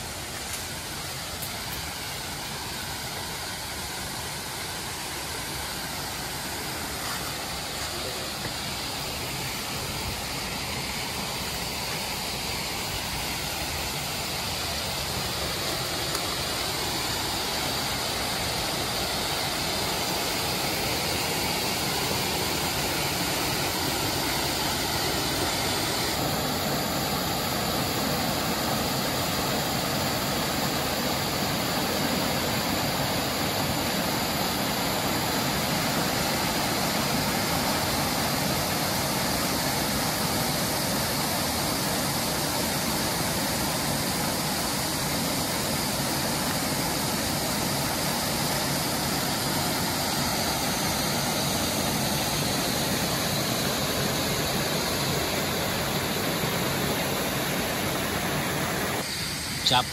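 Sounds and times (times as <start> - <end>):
small waterfall rushing: 0.0 - 59.9.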